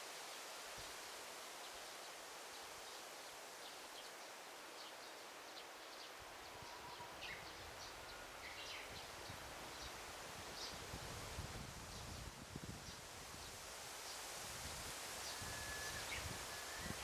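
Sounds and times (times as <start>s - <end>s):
rustling leaves: 0.0s - 17.0s.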